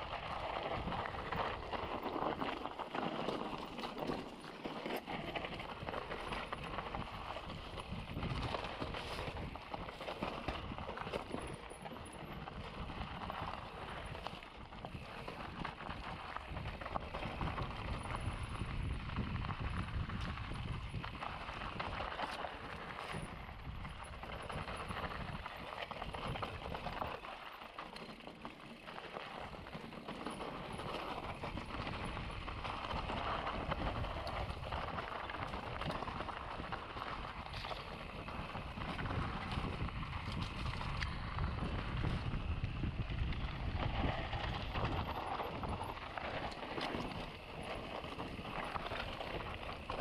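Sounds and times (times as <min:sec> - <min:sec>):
bike rattling over bumps: 0:00.0 - 0:50.0
bike tyres clattering over rocks: 0:00.0 - 0:50.0.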